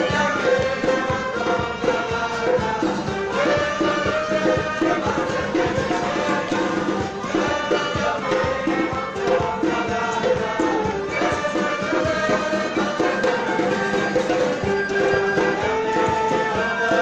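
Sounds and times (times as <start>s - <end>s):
folk dance melody: 0.0s - 17.0s
quick percussive beat: 0.0s - 17.0s.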